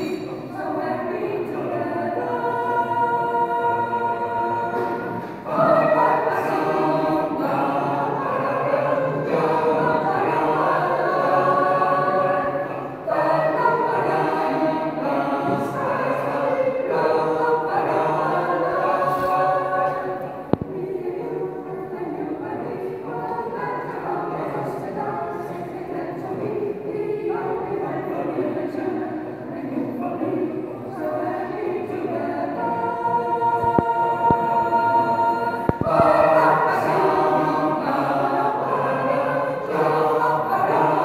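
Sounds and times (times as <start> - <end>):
mixed choir singing: 0.0 - 41.0.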